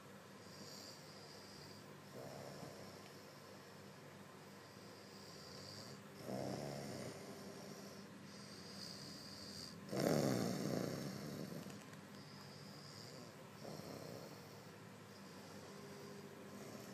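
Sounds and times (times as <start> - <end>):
person snoring: 0.4 - 3.2, 4.7 - 16.9.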